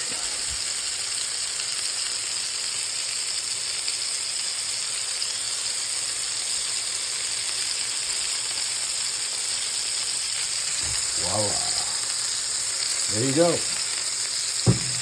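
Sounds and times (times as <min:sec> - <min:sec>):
burger patties sizzling: 0:00.0 - 0:15.0.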